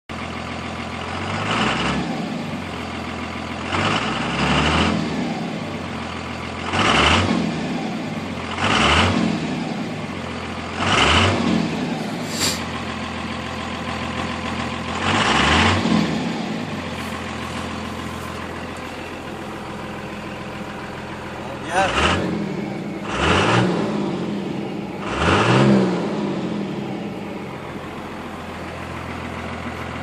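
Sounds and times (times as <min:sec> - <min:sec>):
diesel engine idling and revving: 0:00.1 - 0:30.0.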